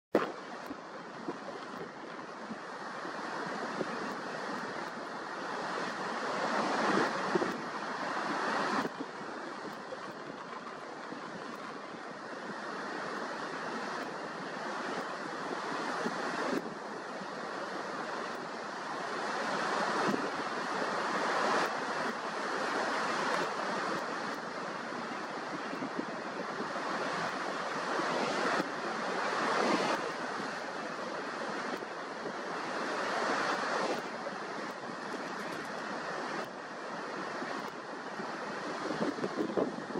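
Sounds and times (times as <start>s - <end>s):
ocean waves breaking on beach: 0.1s - 39.9s.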